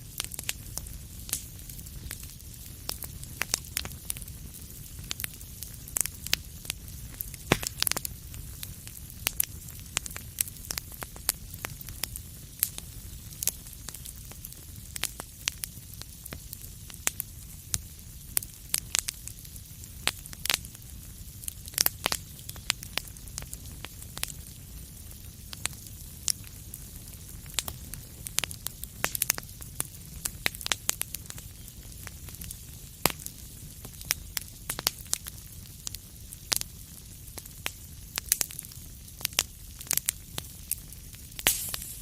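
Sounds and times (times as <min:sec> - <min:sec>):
low rumble of flames: 0:00.0 - 0:42.0
wood fire crackling: 0:00.0 - 0:42.0.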